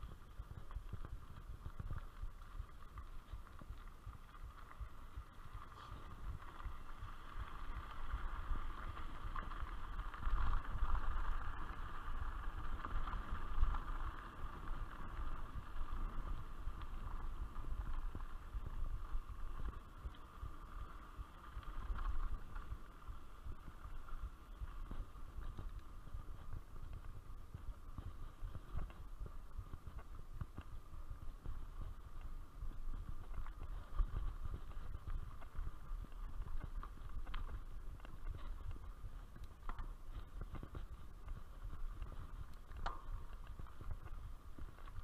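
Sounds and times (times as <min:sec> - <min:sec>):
bike tyres and frame rattling: 0:00.0 - 0:45.0
wind buffeting microphone: 0:00.0 - 0:45.0.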